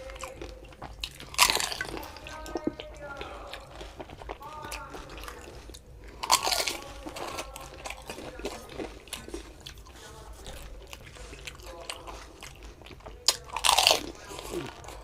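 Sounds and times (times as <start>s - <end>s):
chewing: 0.0s - 15.0s
crisp shells crunching: 0.0s - 15.0s.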